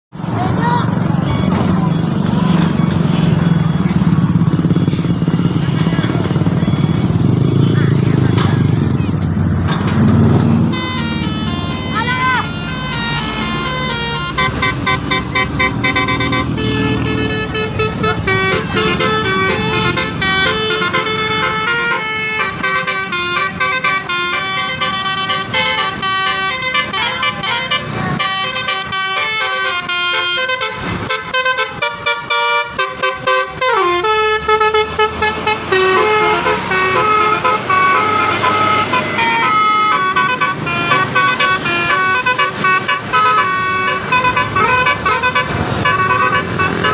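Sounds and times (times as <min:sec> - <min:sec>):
low engine rumble: 0:00.2 - 0:46.9
multi-tone bus horn melody: 0:00.5 - 0:46.9.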